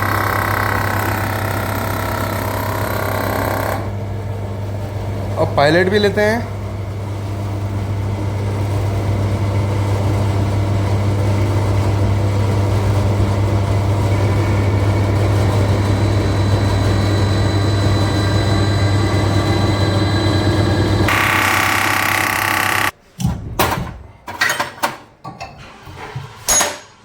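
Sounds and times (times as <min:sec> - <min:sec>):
injector test bench humming: 0:00.0 - 0:23.0.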